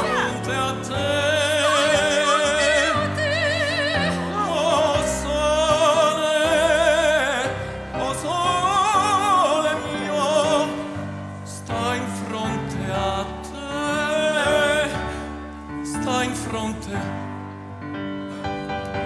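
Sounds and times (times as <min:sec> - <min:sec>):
operatic singing with vibrato: 0:00.0 - 0:17.1
orchestral backing track: 0:00.0 - 0:19.0.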